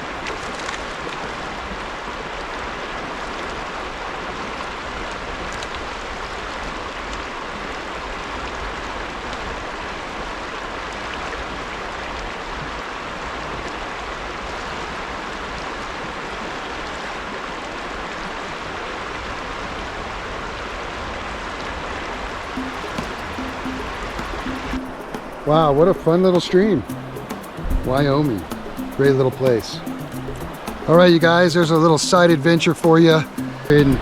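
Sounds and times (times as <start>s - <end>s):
creek flowing over rocks: 0.0s - 34.0s.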